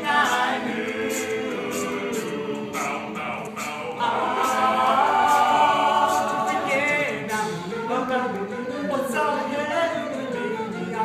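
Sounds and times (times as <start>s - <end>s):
male group singing in harmony: 0.0s - 11.0s
vocal percussion beat: 0.0s - 11.0s.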